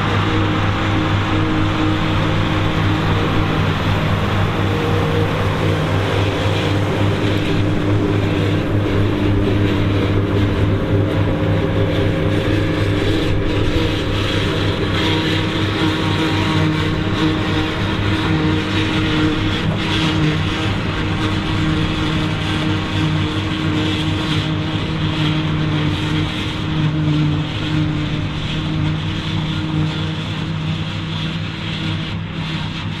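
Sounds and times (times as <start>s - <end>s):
harvester cutter and blower whirring: 0.0s - 33.0s
tractor diesel engine running: 0.0s - 33.0s.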